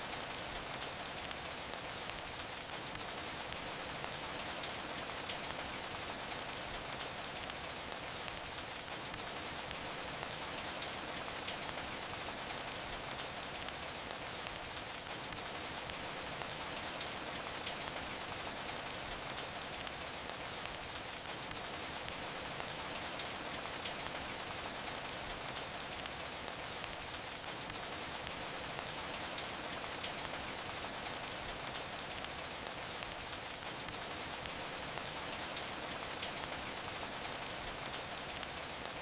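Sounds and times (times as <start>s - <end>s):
steady rain falling: 0.0s - 39.0s
wood fire crackling: 0.0s - 39.0s.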